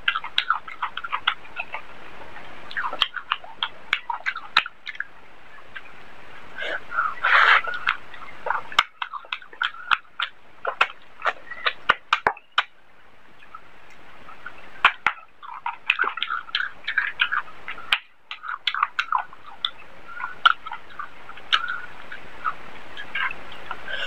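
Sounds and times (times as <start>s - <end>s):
chewing with wet smacks: 0.0s - 5.1s, 7.0s - 12.7s, 14.4s - 23.8s
lip and tongue clicks: 0.0s - 5.9s, 6.6s - 12.8s, 13.4s - 24.0s.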